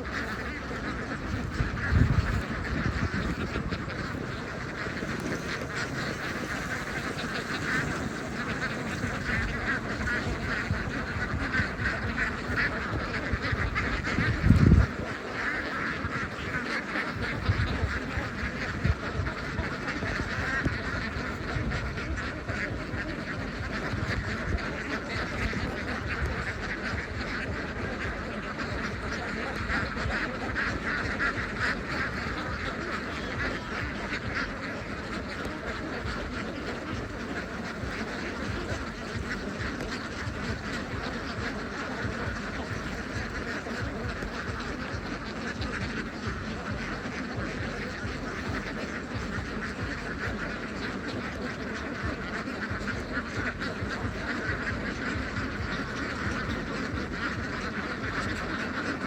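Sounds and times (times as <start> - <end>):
ducks quacking: 0.0 - 59.0.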